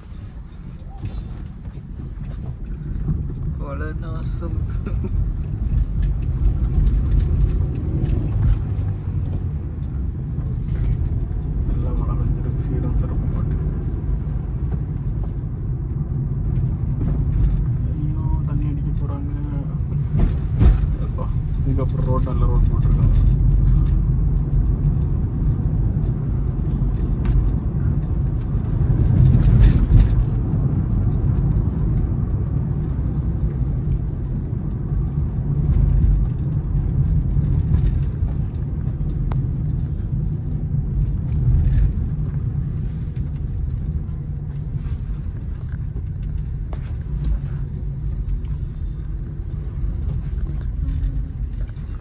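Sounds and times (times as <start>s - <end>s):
car engine and tyres rumbling: 0.0s - 52.0s.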